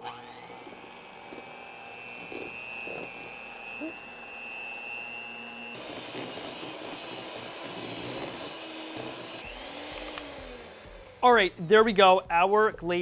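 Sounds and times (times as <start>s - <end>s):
electric hand mixer running: 0.0s - 11.2s
high mixer whine: 0.0s - 11.2s.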